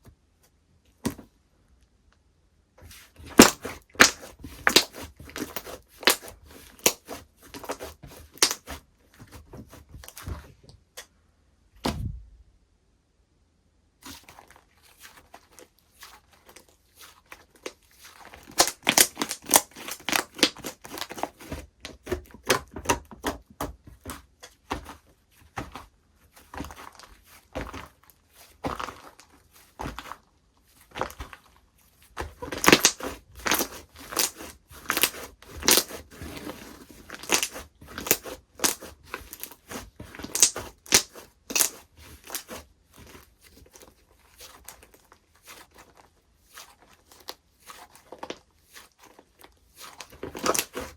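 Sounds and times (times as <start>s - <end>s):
slime squished by hand: 3.0s - 8.8s, 14.0s - 23.3s, 24.6s - 50.9s.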